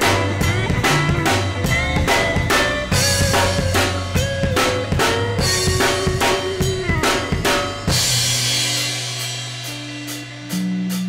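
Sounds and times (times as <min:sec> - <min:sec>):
bass and guitar note: 0:00.0 - 0:10.9
rock drum beat: 0:00.0 - 0:11.0.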